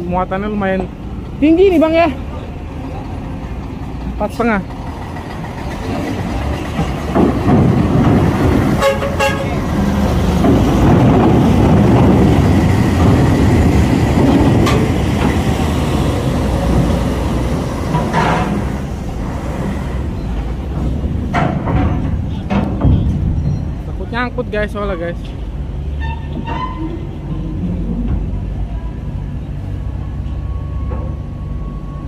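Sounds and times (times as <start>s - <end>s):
diesel truck engine under load: 0.0s - 32.0s.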